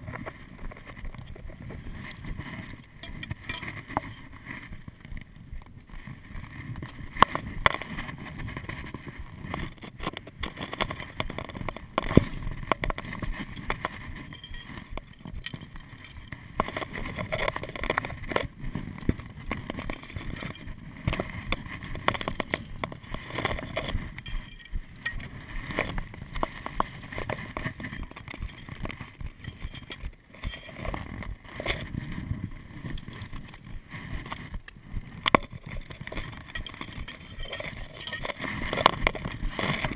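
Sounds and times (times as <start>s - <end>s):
footsteps crunching on loose rock: 0.0s - 39.9s
pole tips clicking on rock: 0.0s - 39.9s.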